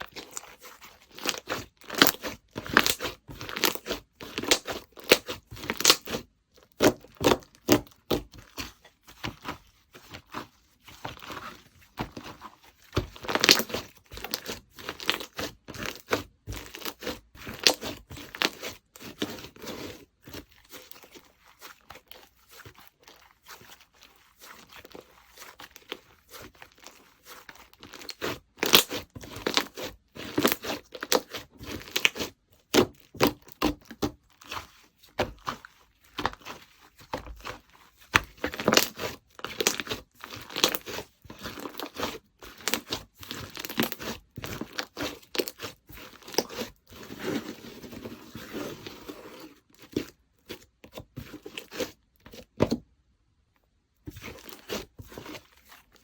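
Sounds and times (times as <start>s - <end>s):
slime squelching and popping: 0.0s - 52.9s.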